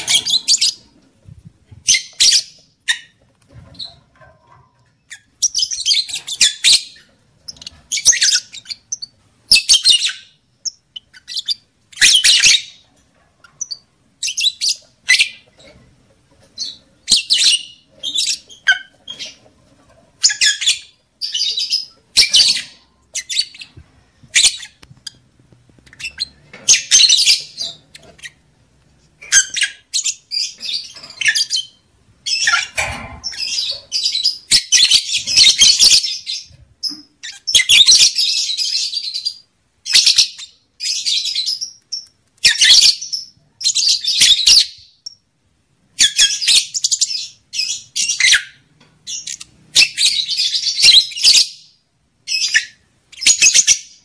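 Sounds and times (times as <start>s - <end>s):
lovebirds chattering calls: 0.0s - 1.1s, 1.8s - 4.2s, 4.8s - 45.2s, 46.0s - 54.0s.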